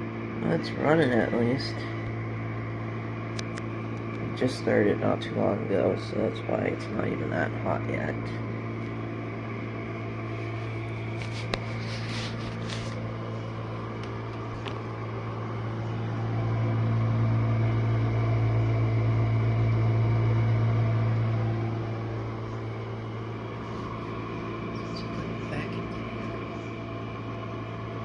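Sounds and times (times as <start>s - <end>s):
dishwasher humming: 0.0s - 28.0s.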